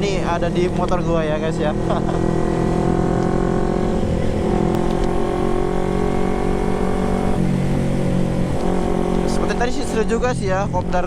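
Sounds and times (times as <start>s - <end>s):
motorcycle engine while riding: 0.0s - 11.0s.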